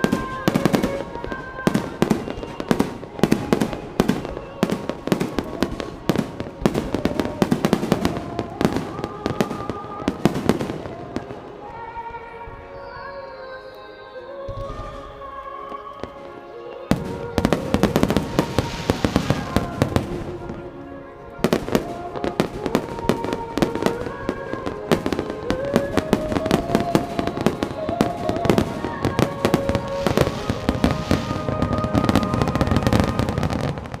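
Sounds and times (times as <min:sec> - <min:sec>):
fireworks bangs and crackles: 0:00.0 - 0:12.0, 0:14.5 - 0:34.0
melodic music: 0:00.0 - 0:34.0.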